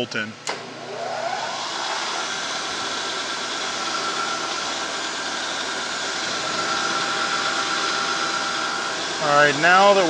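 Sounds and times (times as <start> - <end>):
milling machine cutting metal: 1.3 - 10.0.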